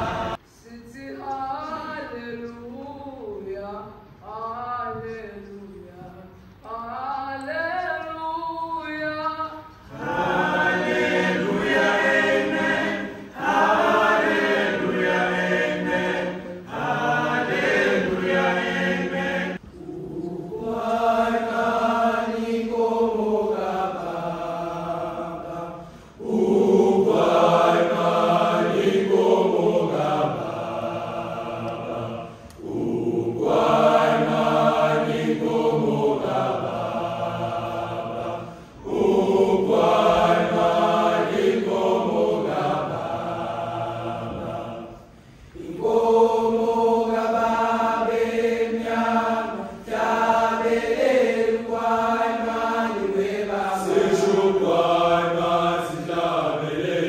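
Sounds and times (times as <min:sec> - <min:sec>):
choir singing: 0:00.0 - 0:02.8, 0:09.8 - 0:57.0.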